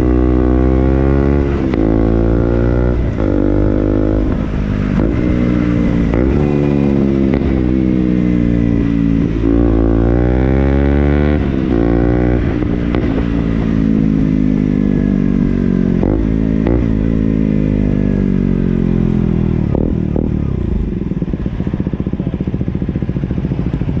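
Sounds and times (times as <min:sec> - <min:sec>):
motorcycle engine running hard: 0:00.0 - 0:24.0.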